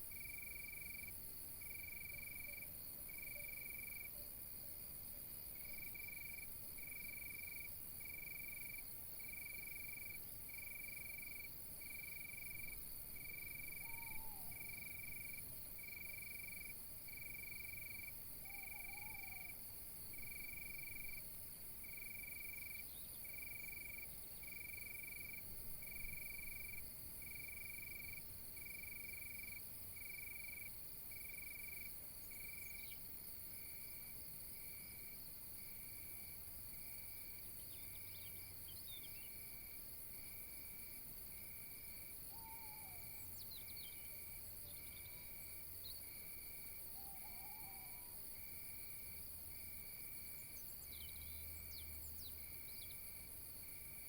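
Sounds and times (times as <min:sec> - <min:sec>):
crickets chirping: 0:00.0 - 0:54.0
high insect trill: 0:05.5 - 0:54.0.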